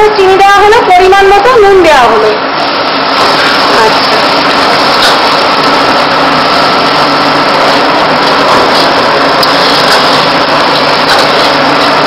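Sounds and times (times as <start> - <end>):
gas burner and extraction roar: 0.0 - 12.0.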